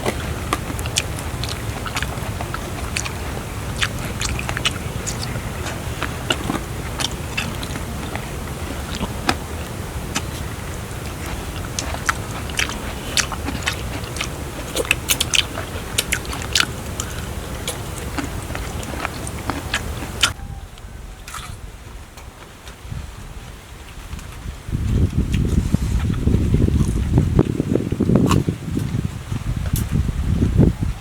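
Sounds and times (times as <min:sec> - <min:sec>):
person chewing crunchy food: 0:00.0 - 0:20.4, 0:21.2 - 0:21.6, 0:24.9 - 0:30.0.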